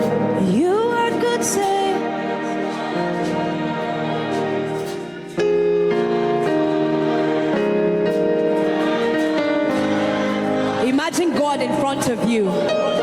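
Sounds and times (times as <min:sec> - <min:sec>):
keyboard playing slow chords: 0:00.0 - 0:13.0.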